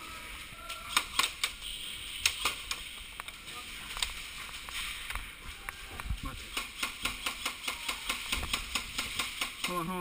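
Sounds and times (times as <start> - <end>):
sharp snaps and clicks: 1.0 - 1.6, 2.2 - 9.8.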